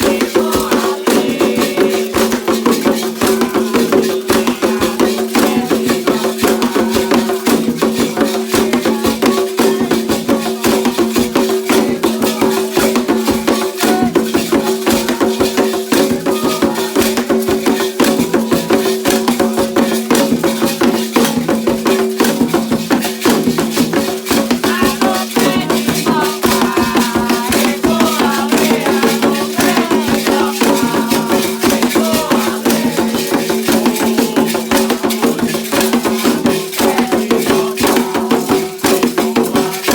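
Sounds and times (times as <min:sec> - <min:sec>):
voices singing: 0:00.0 - 0:20.0, 0:24.0 - 0:39.9
fast steady percussion: 0:00.0 - 0:39.9.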